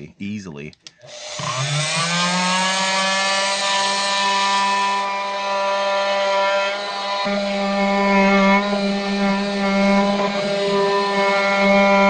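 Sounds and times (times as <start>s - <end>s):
oscillating multi-tool motor buzzing: 1.0s - 12.0s
blade scraping plywood: 1.1s - 12.0s.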